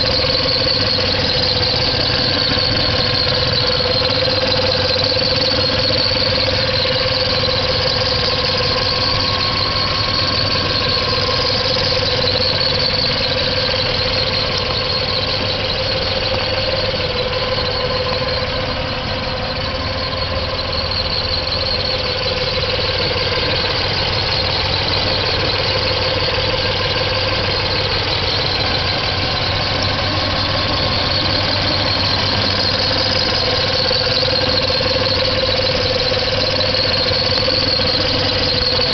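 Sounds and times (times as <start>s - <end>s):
engine rumble: 0.0s - 38.9s
high-pitched engine squeal: 0.0s - 38.9s.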